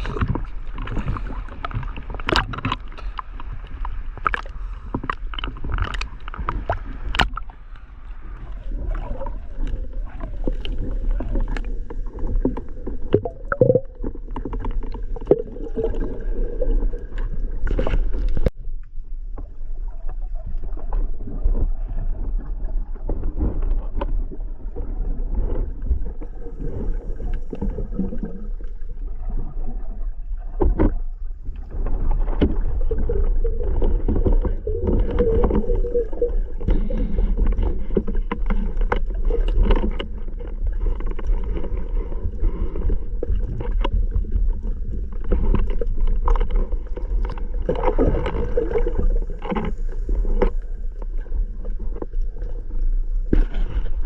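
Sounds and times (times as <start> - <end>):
muffled churning water gurgling: 0.0 - 54.0.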